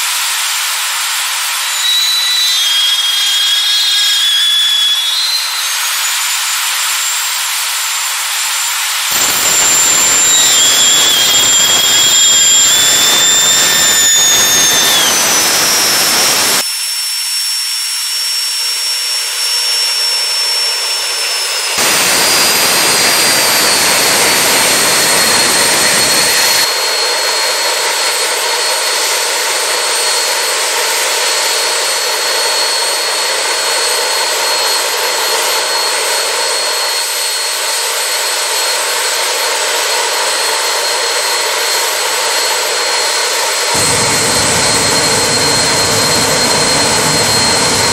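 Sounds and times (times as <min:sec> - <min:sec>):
jet engine roaring: 0:00.0 - 0:16.7, 0:18.9 - 0:47.9
high turbine whine: 0:00.0 - 0:47.9.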